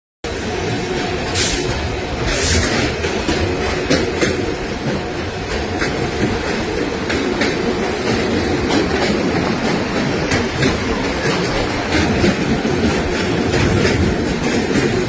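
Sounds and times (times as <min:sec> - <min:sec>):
train rumbling on rails: 0:00.2 - 0:15.0
wheels clicking over rail joints: 0:00.4 - 0:15.0.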